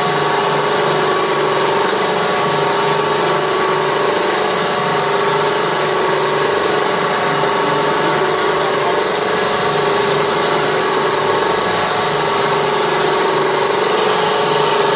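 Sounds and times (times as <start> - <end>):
mixer humming with high whine: 0.0 - 14.9.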